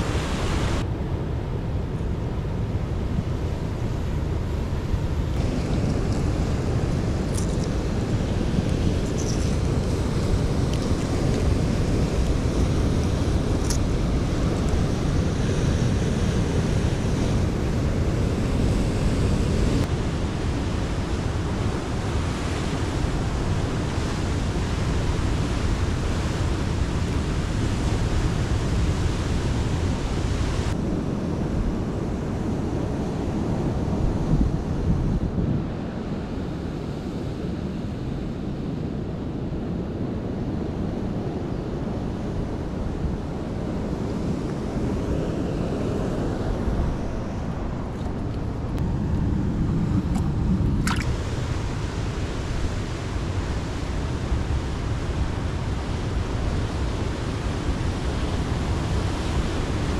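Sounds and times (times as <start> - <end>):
ocean surf washing on shore: 0.0 - 59.9
wind buffeting microphone: 0.0 - 59.9.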